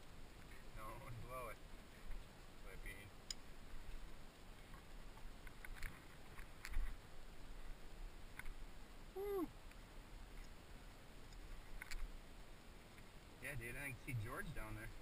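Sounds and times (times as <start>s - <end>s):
low uneven rumble: 0.0s - 15.0s.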